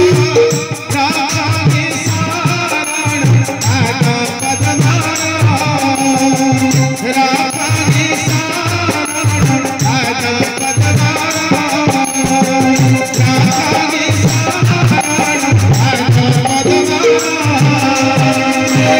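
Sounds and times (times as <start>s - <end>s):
crisp rattling percussion: 0.0s - 18.9s
electronic keyboard: 0.0s - 18.9s
man singing into microphone: 0.0s - 18.9s
regular drumbeat: 0.0s - 18.9s.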